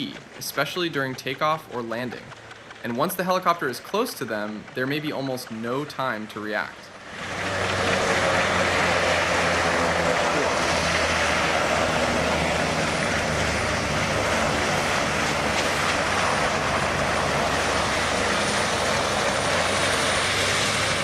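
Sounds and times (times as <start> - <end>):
helicopter running: 0.0 - 21.0
low hum: 0.0 - 21.0.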